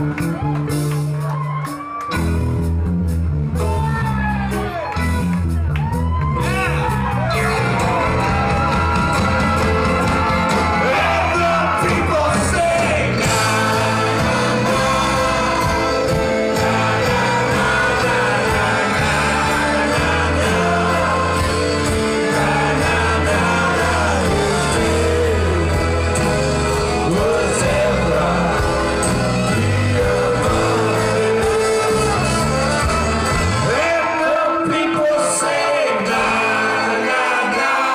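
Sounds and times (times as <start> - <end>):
drums: 0.0 - 34.8
guitar: 0.0 - 37.9
sousaphone bass line: 2.3 - 33.8
person singing: 7.4 - 37.9.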